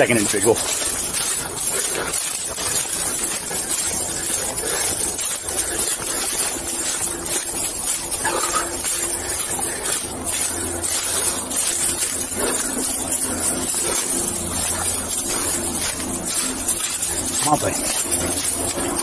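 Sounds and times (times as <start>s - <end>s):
footsteps in dry leaves: 0.0s - 19.0s
low steady hum: 0.0s - 19.0s.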